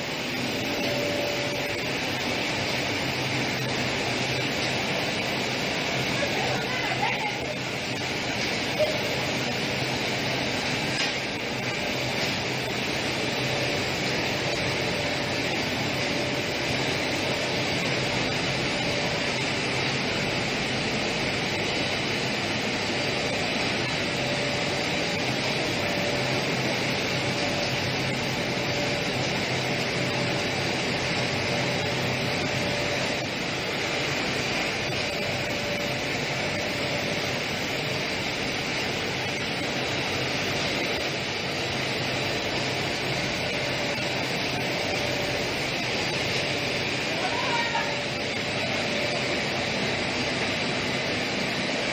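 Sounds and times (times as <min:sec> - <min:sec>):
washing machine humming: 0:00.0 - 0:51.9.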